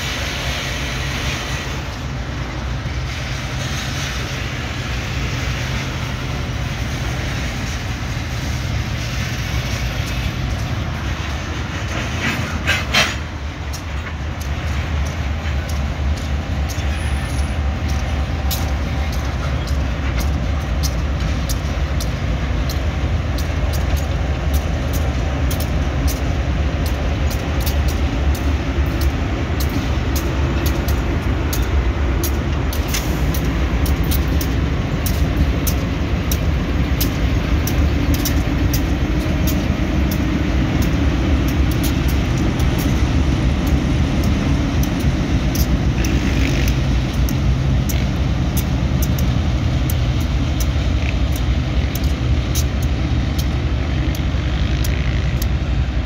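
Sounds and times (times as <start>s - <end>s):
locomotive engine rumble: 0.0s - 56.0s
wheels clicking on track: 0.0s - 56.0s.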